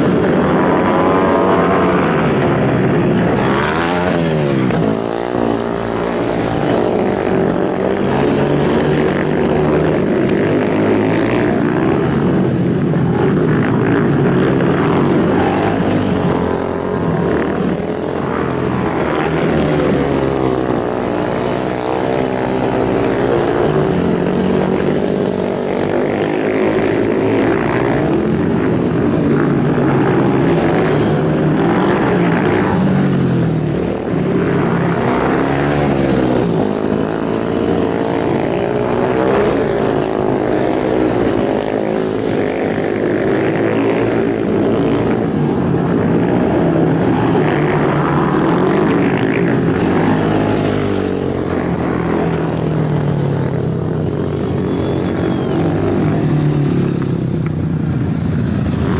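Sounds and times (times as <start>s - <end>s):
racing motorcycle engines revving: 0.0s - 58.9s.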